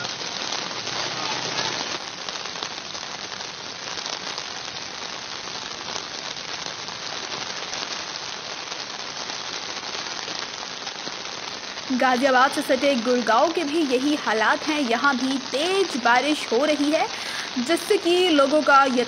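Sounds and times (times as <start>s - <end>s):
heavy rain on a flooded street: 0.0s - 19.0s.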